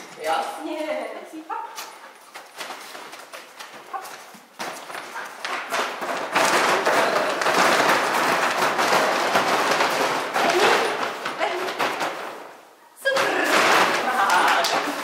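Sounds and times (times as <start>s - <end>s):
plastic sheeting crinkling: 1.9s - 15.0s.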